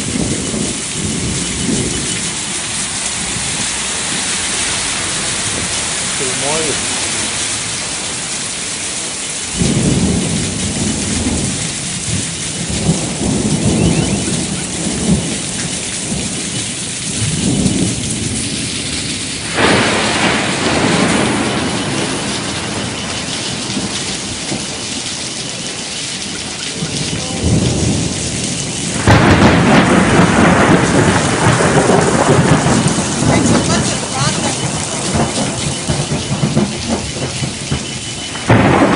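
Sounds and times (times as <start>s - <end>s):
heavy rain: 0.0s - 38.9s
low rolling thunder: 0.0s - 38.9s.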